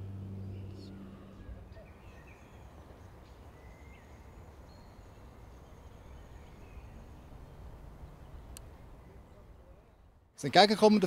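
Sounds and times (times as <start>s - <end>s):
low background rumble: 0.0s - 10.3s
faint birdsong: 0.0s - 10.4s.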